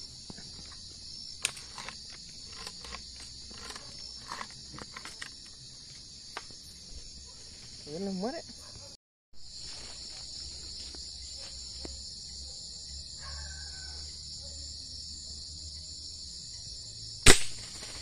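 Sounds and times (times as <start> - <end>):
crickets and insects trilling: 0.0 - 18.0.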